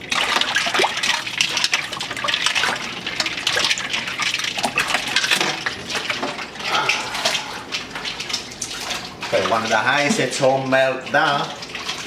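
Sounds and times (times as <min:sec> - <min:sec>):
ice water splashing in a bowl: 0:00.0 - 0:12.0.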